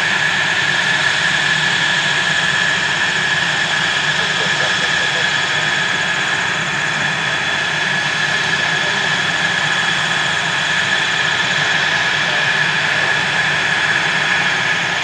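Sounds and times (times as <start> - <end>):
jet engine running with whine: 0.0 - 15.0.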